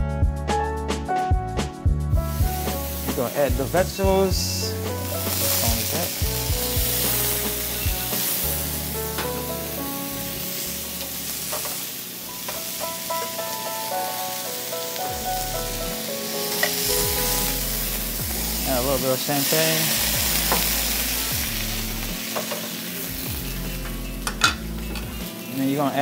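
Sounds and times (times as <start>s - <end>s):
background music with held notes: 0.0s - 26.0s
vegetables sizzling in a skillet: 2.3s - 26.0s.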